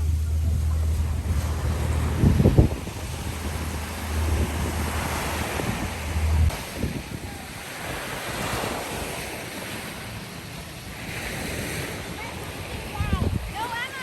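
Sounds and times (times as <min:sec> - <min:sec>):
sea waves: 0:00.0 - 0:14.0
wind buffeting microphone: 0:00.0 - 0:14.0.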